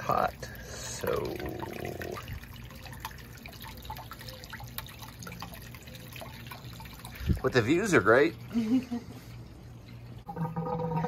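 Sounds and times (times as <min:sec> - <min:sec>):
faint water drips: 0:00.0 - 0:11.0
water trickling into tub: 0:00.0 - 0:11.0.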